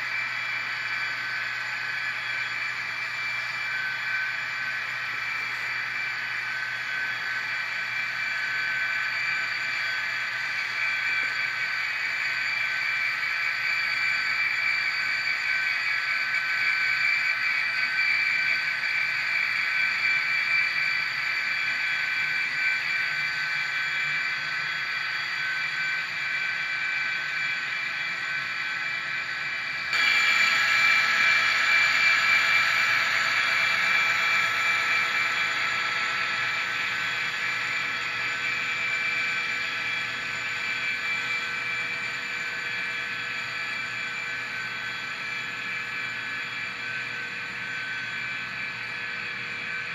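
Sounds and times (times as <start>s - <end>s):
thin high-pitched engine drone: 0.0s - 49.9s.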